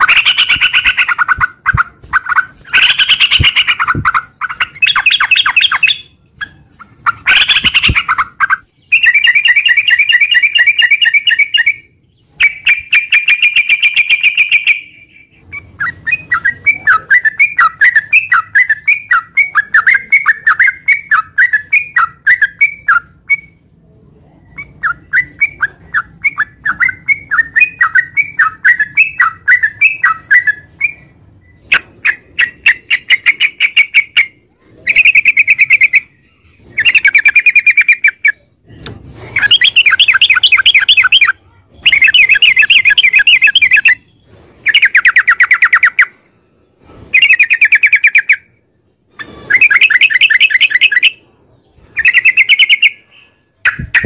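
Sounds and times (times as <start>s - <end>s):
bird singing trills: 0.0s - 23.6s, 24.5s - 46.2s, 47.1s - 54.0s.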